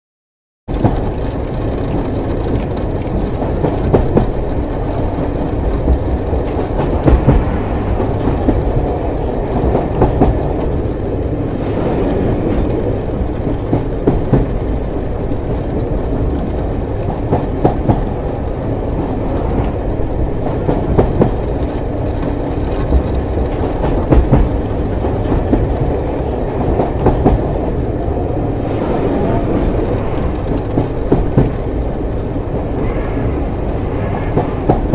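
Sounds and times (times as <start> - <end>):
train rumbling: 0.7 - 34.9
wheels clicking on track: 0.7 - 34.9.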